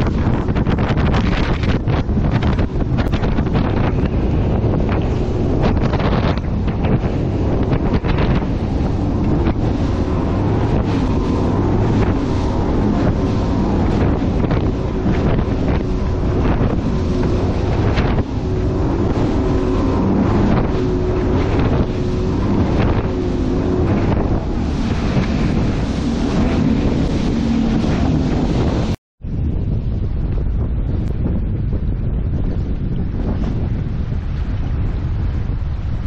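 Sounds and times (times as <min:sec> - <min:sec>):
outboard motor running: 0:00.0 - 0:29.0
boat hull slapping waves: 0:00.0 - 0:36.0
wind buffeting microphone: 0:00.0 - 0:36.0.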